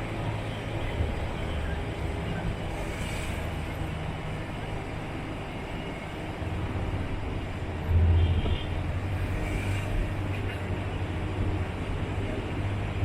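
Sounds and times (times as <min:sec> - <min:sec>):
vehicle engine and road drone: 0:00.0 - 0:13.0.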